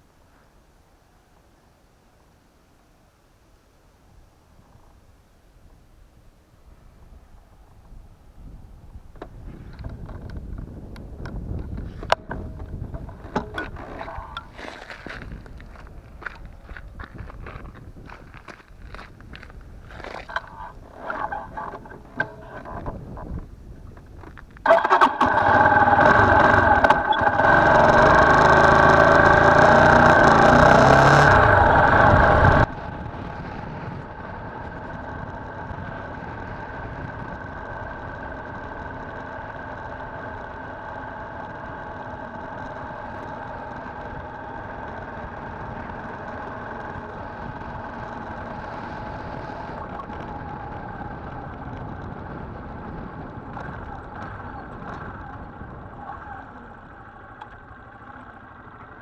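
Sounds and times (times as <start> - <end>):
motorcycle engine running: 8.4 - 59.0.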